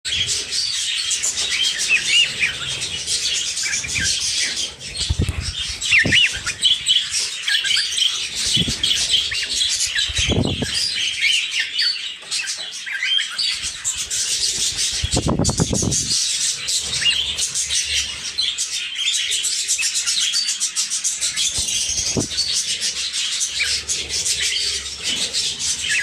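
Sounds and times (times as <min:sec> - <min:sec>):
cockatiels chirping and whistling: 0:00.1 - 0:26.0.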